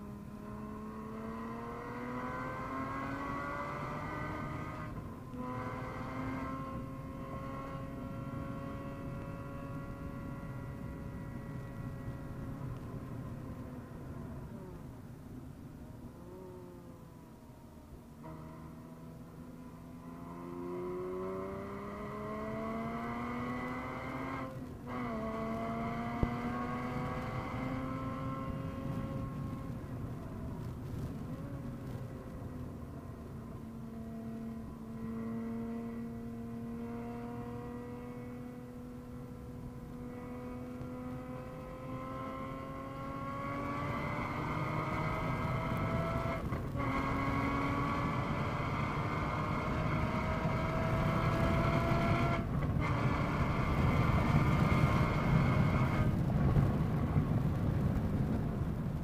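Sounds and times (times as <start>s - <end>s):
car engine revving: 0.3s - 12.9s, 18.2s - 57.5s.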